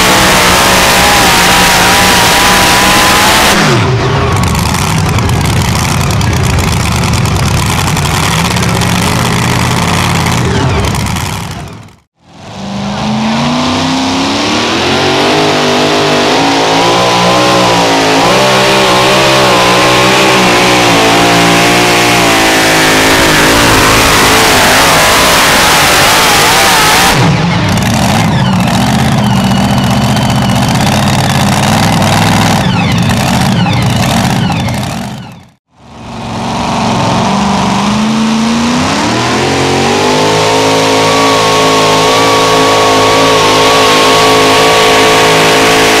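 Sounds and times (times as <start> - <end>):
truck engines revving at full throttle: 0.0 - 46.0.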